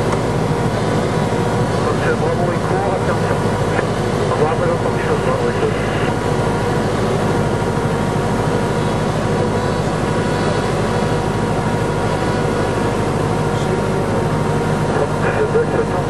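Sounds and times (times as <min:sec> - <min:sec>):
aircraft engine and propeller: 0:00.0 - 0:16.0.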